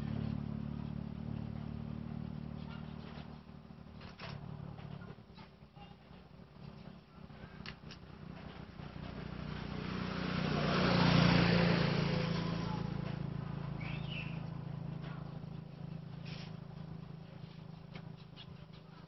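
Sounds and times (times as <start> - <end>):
vehicle passing by: 0.0 - 5.0, 7.4 - 18.4.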